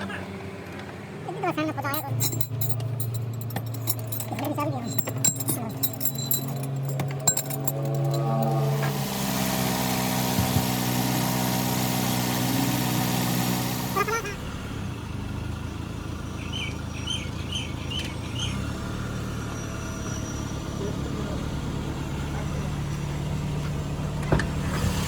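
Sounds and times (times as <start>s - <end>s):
engine idling: 1.4s - 19.0s, 20.2s - 25.0s.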